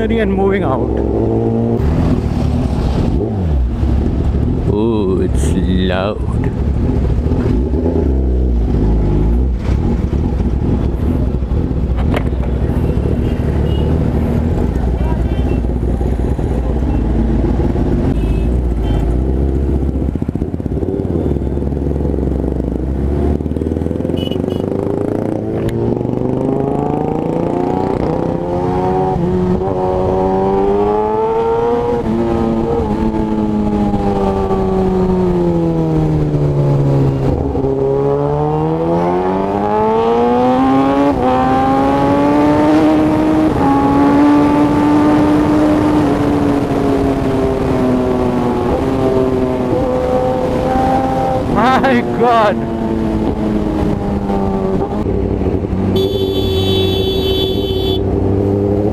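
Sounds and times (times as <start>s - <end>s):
motorcycle engine accelerating: 0.8s - 5.0s, 6.4s - 58.9s.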